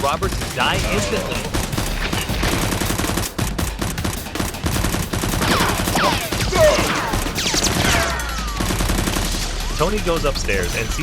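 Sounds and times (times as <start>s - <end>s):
rapid gunfire: 0.0s - 10.3s.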